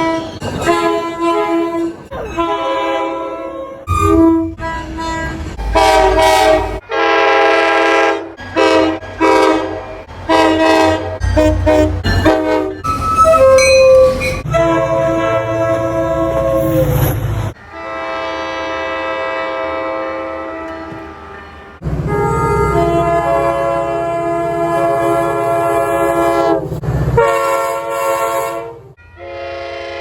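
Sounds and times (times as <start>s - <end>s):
train horn blasts: 0.0s - 30.0s.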